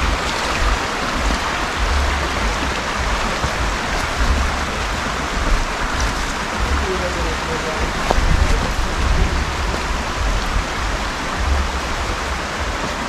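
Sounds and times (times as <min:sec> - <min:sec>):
low rumbling: 0:00.0 - 0:13.0
rushing water: 0:00.0 - 0:13.0.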